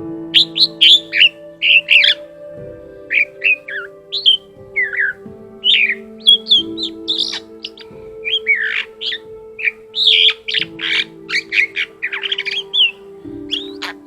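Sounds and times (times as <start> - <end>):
starling singing: 0.0 - 14.0.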